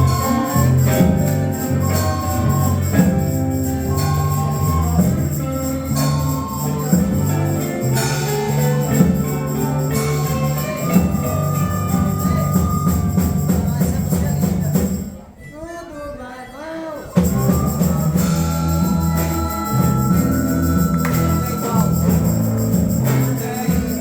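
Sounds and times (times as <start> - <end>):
live band playing: 0.0 - 15.4, 17.1 - 24.0.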